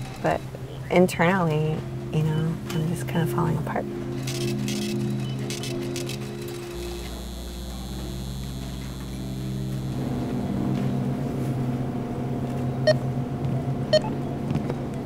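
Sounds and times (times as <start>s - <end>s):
electrical hum of lights and fridges: 0.0s - 15.0s.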